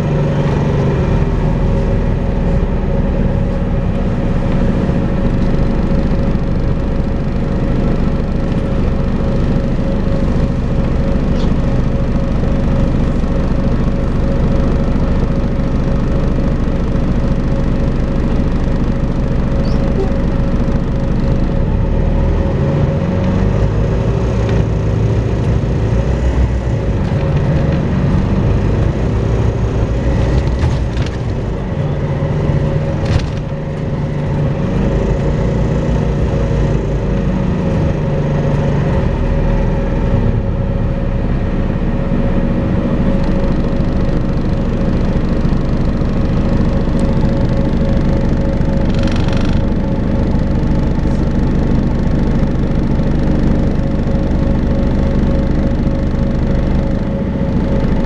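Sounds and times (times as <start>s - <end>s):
bus diesel engine with whine: 0.0s - 58.0s.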